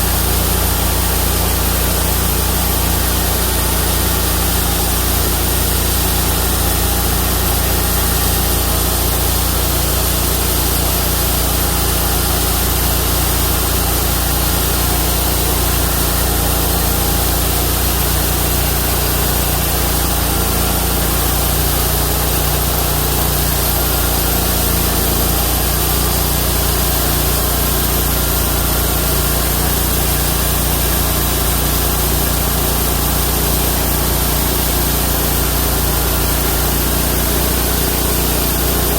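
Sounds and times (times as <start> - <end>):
bandsaw mill engine running: 0.0 - 38.9.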